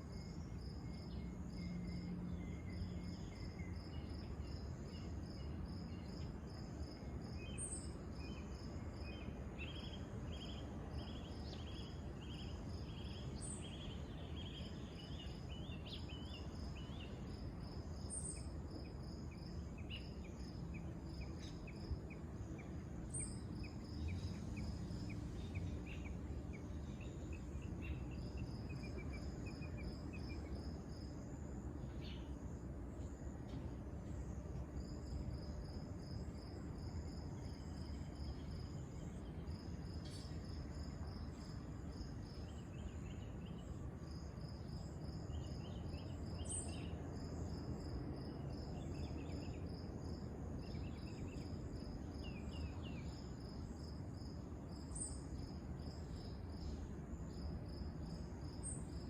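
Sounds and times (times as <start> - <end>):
insects chirping in pulses: 0.0 - 59.0.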